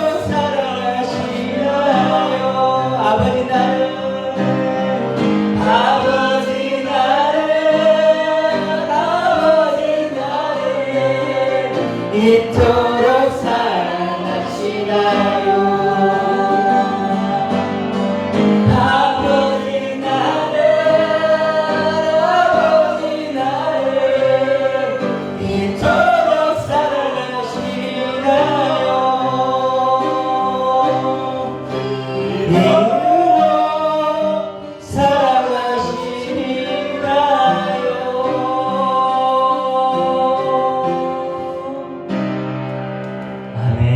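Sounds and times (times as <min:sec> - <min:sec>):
sustained musical accompaniment: 0:00.0 - 0:43.9
voices singing gospel song: 0:00.0 - 0:43.9.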